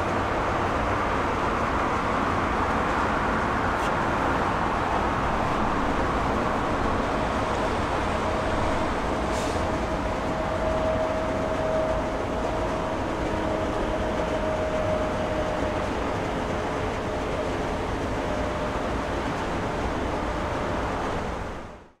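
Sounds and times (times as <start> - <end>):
jet engines running: 0.0 - 21.6.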